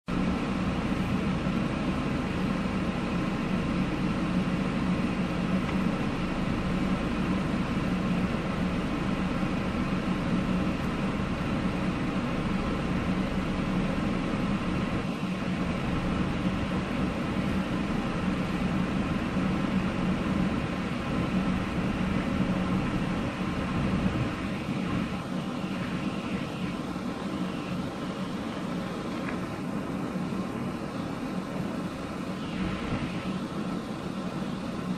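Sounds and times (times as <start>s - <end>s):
car engine humming: 0.0s - 34.9s
road and wind noise: 0.0s - 34.9s.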